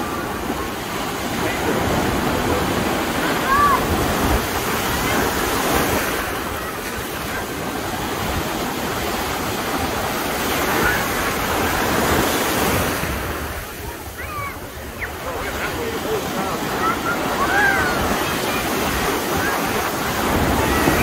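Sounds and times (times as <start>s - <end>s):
surf breaking against pier pilings: 0.0s - 21.0s.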